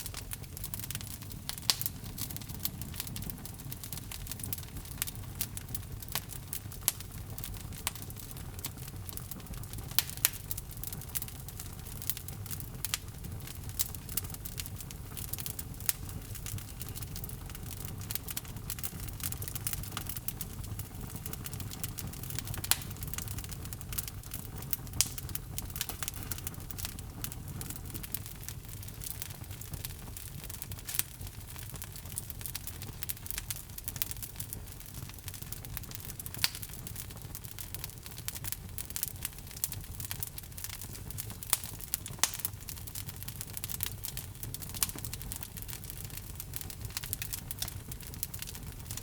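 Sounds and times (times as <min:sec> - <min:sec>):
log fire crackling: 0:00.0 - 0:49.0.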